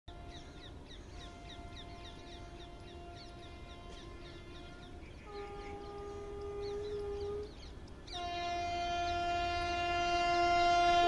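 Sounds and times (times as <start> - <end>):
birds chirping: 0.1 - 11.0
train horn blasts: 0.1 - 11.0.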